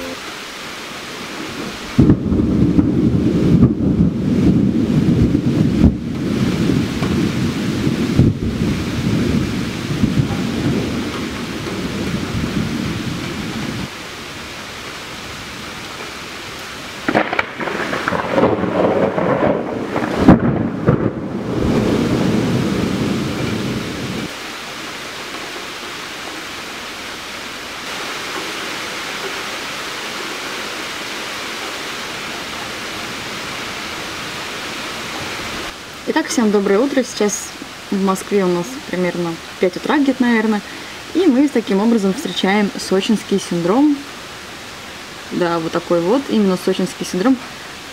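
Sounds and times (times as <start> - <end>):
steady rain: 0.0 - 47.9
thunder rumbling: 0.8 - 47.9.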